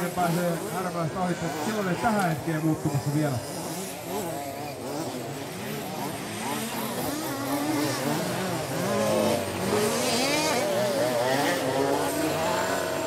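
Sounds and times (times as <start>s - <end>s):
rc car engines revving: 0.0s - 13.0s.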